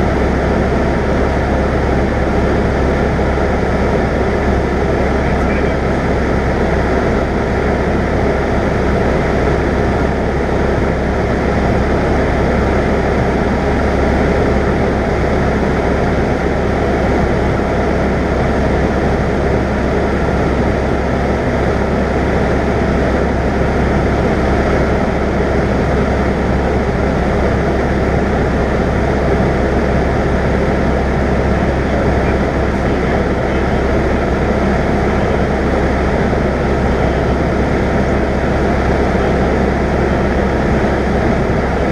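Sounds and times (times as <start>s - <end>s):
propeller plane engine in cabin: 0.0s - 41.9s.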